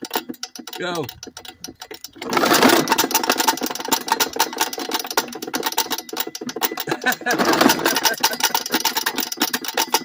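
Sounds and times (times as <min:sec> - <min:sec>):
lawnmower engine popping and sputtering: 0:00.0 - 0:10.0.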